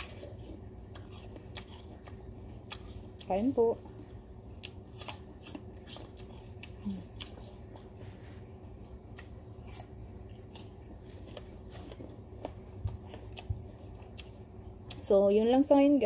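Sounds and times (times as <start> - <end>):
apple crunching: 0.0 - 8.0, 8.6 - 15.0.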